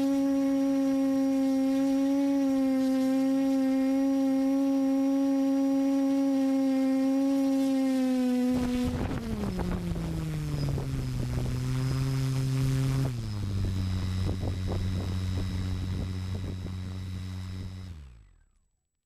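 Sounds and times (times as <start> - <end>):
electric motor and propeller humming: 0.0 - 18.6.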